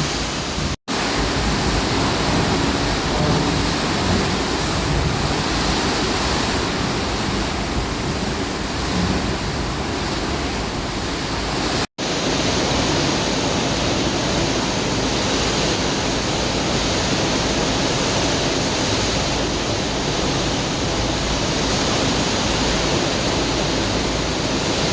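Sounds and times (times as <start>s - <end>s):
heavy rain: 0.0s - 24.9s
wind: 0.0s - 24.9s.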